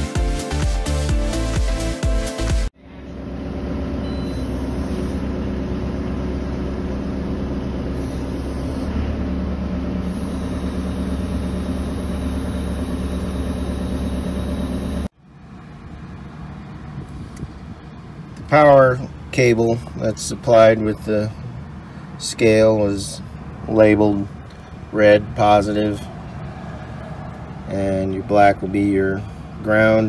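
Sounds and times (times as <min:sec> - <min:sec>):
loader engine running: 0:00.0 - 0:30.0.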